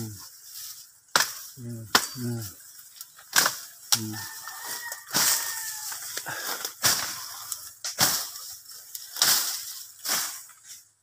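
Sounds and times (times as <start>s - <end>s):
dry leaves rustling underfoot: 0.0s - 11.0s.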